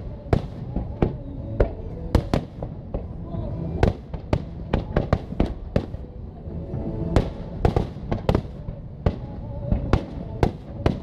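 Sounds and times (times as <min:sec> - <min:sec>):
music playing: 0:00.0 - 0:11.0.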